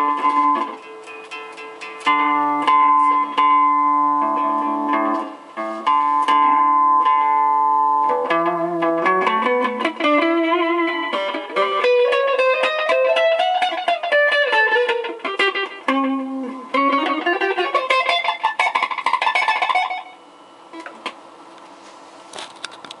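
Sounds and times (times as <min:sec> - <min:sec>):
guitar with delay effect: 0:00.0 - 0:21.2.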